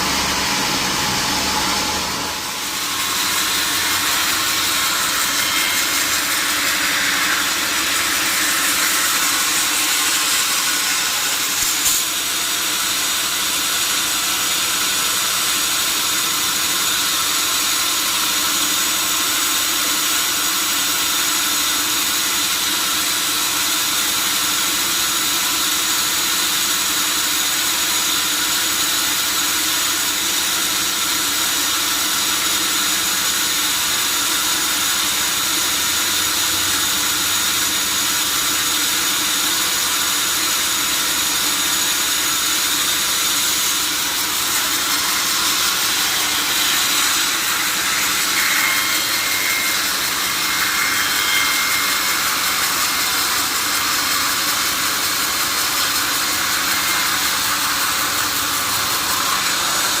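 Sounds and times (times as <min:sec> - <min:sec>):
sawmill saw cutting log: 0:00.0 - 1:00.0.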